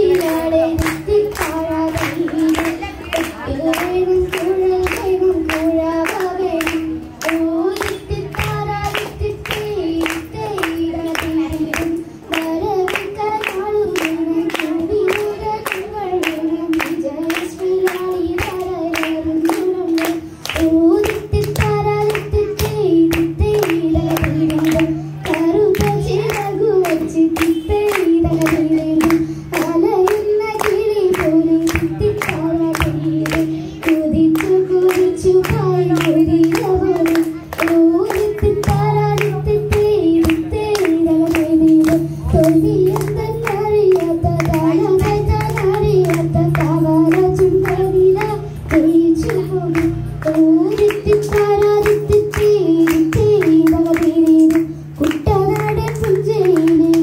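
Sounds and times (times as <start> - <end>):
girl singing into a microphone: 0.0 - 57.0
hand claps: 0.0 - 57.0.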